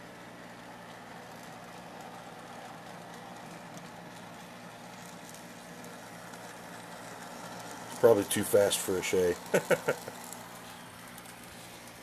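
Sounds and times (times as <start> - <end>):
model locomotive motor hum: 0.0 - 12.0
wheels clicking over rails: 0.0 - 12.0.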